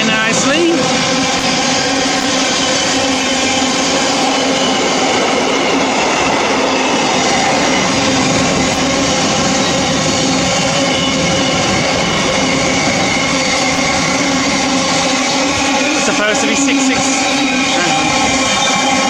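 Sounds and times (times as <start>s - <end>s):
freight train wagons rolling: 0.0s - 19.0s.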